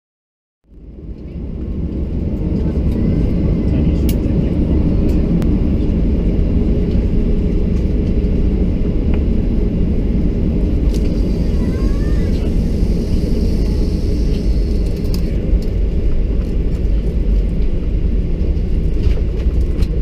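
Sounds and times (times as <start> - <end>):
aircraft cabin engine rumble: 0.7 - 20.0.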